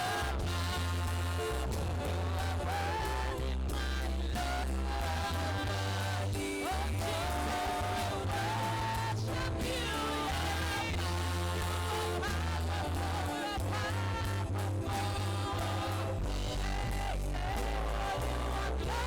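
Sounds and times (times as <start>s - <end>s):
band playing worship music: 0.0s - 19.0s
bass line: 0.0s - 19.0s
guitar: 0.0s - 19.0s
person singing: 0.0s - 19.0s.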